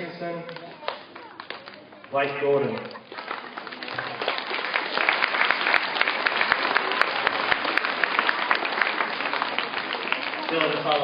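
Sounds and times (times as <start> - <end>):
children clapping: 0.4 - 11.0.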